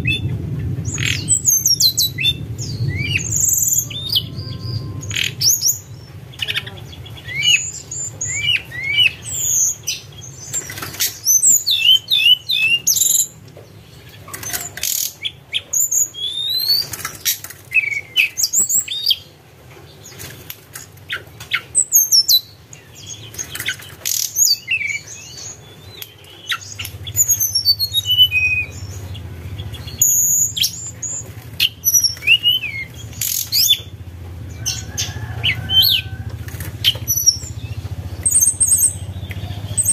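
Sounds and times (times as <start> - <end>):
bird whistling song: 0.0 - 13.4, 14.4 - 19.3, 21.1 - 39.9.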